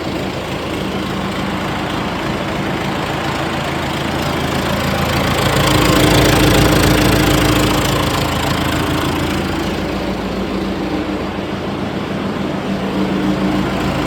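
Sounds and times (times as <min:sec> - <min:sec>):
dozer diesel engine running: 0:00.0 - 0:14.0
steady whine: 0:00.0 - 0:14.0.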